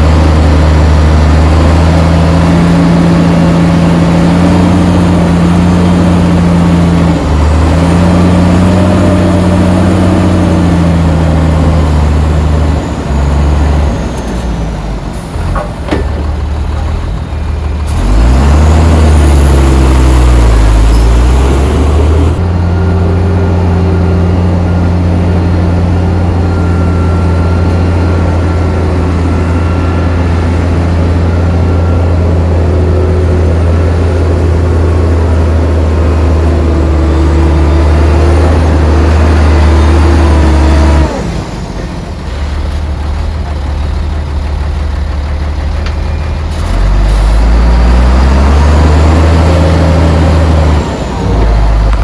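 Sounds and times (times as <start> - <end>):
heavy diesel engine revving: 0.0 - 52.0.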